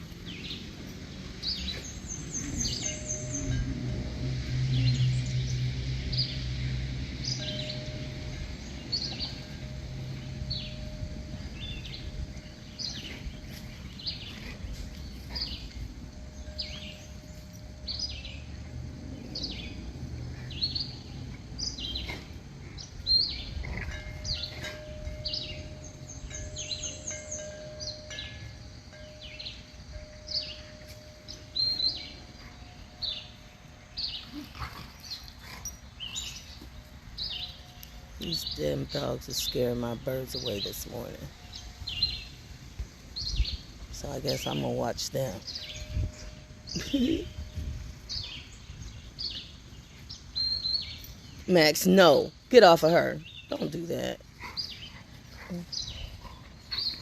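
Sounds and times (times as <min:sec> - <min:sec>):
songbird chirps: 0:00.0 - 0:57.0.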